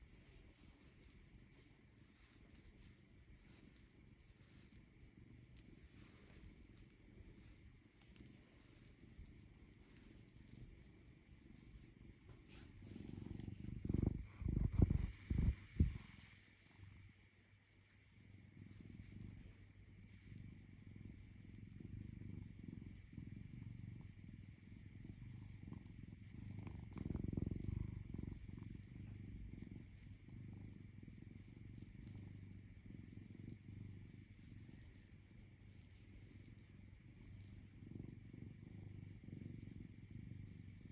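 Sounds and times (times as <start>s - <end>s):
animal purring: 0.0s - 17.1s, 18.2s - 40.9s
faint high-pitched whine: 0.0s - 40.9s.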